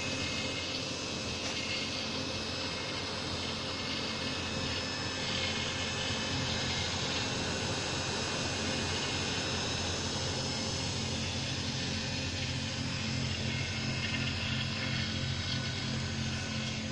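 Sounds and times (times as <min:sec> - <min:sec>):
electric motor of wood lathe humming: 0:00.0 - 0:16.9.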